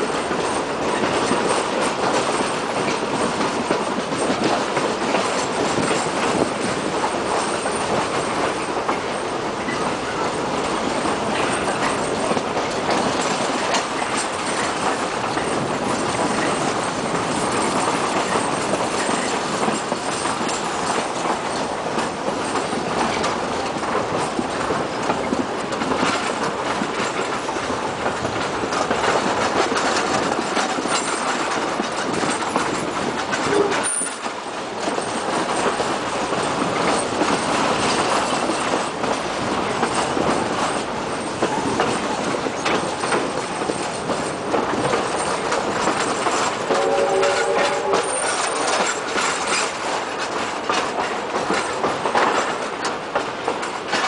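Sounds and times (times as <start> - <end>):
train wheels clickety-clack on rails: 0.0 - 54.0.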